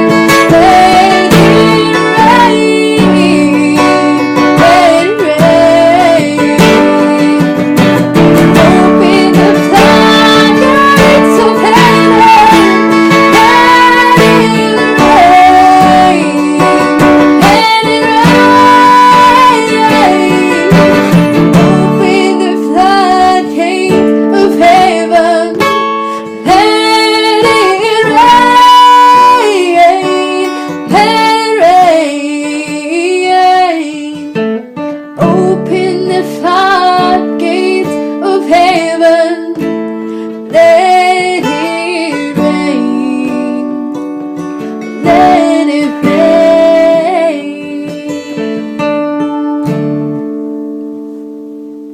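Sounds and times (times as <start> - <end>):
woman singing: 0.0 - 50.0
acoustic guitar: 0.0 - 51.9.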